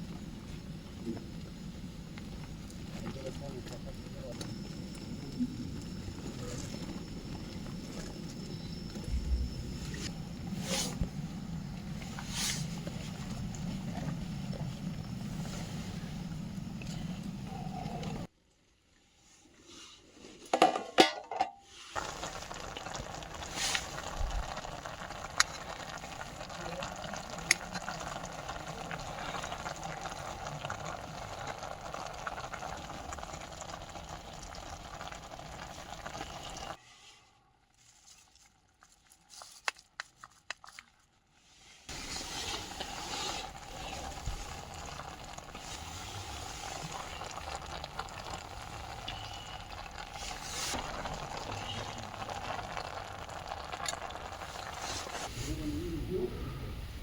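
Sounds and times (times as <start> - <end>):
camp stove hissing: 0.0 - 18.3, 21.8 - 36.8, 41.9 - 57.0
water bubbling in pot: 0.0 - 18.3, 22.0 - 36.8, 41.9 - 55.3.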